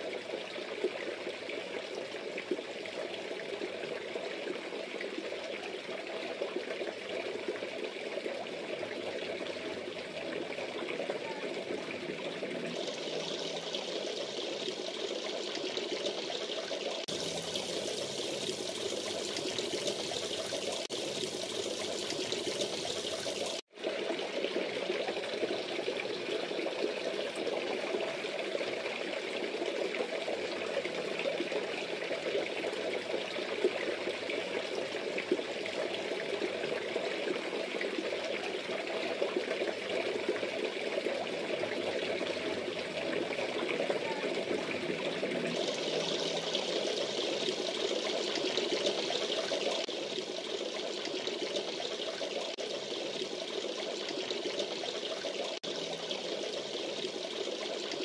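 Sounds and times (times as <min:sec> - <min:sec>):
water splashing into pond: 0:00.0 - 0:58.0.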